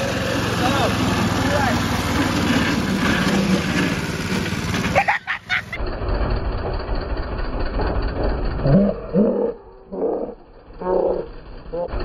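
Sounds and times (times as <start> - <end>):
small gas engine running: 0.0 - 12.0.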